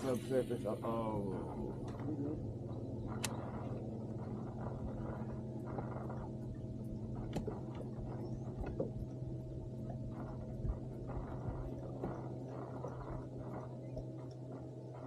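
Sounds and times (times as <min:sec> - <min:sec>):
low boat motor hum: 0:00.0 - 0:15.0.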